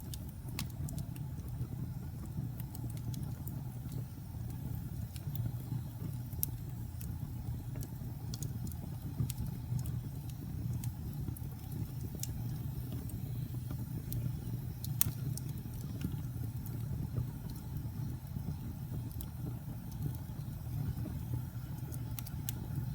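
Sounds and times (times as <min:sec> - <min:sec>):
fire flames rumbling: 0:00.0 - 0:22.9
wood crackling and popping: 0:00.0 - 0:22.9.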